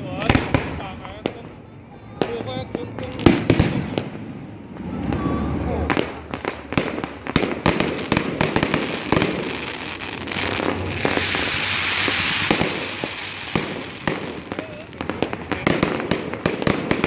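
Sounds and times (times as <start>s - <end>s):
fireworks banging and popping: 0.0s - 17.0s
hissing crackle of fireworks: 0.0s - 17.0s.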